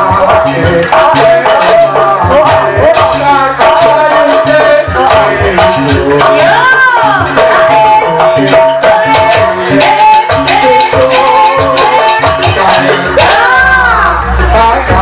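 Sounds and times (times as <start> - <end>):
drums and gongs ensemble: 0.0 - 15.0.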